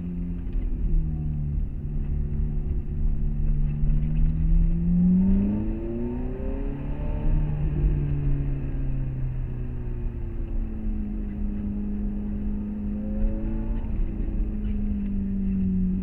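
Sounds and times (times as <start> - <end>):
car engine accelerating: 0.0 - 16.0
low road rumble: 0.0 - 16.0.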